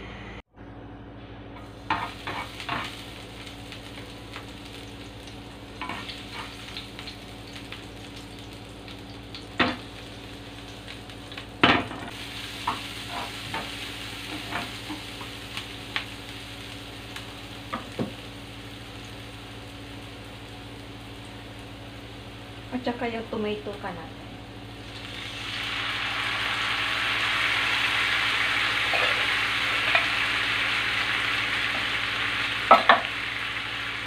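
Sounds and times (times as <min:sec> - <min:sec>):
aromatics sizzling in oil: 0:01.6 - 0:34.0.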